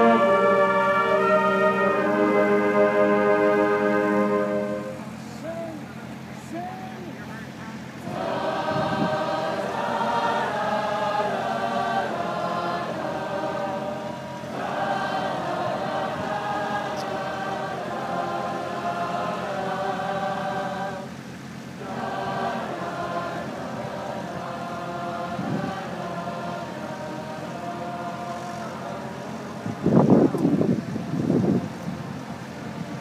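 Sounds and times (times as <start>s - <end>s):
marching band singing a chorale: 0.0s - 6.4s, 7.7s - 33.0s.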